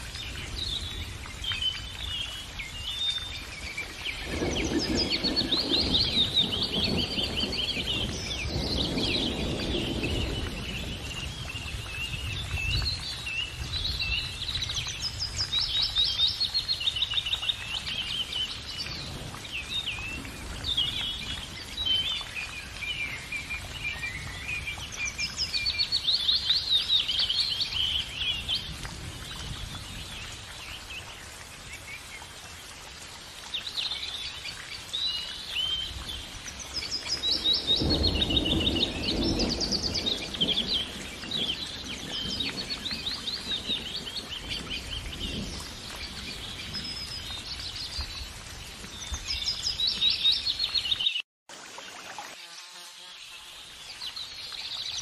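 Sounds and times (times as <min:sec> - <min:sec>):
small songbirds trilling and chirping: 0:00.0 - 0:51.2.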